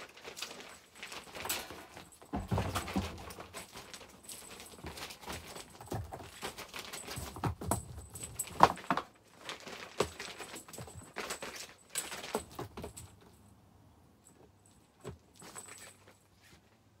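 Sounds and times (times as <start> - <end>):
rustling: 0.0 - 13.5, 14.2 - 17.0.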